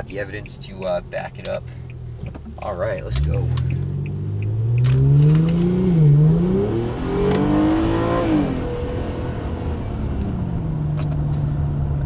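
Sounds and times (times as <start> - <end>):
car engine accelerating hard: 0.4 - 12.0.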